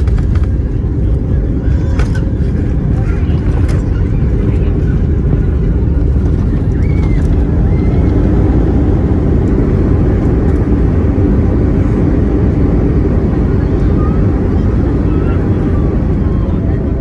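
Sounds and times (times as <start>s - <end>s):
airplane cabin roar on landing: 0.0s - 17.0s.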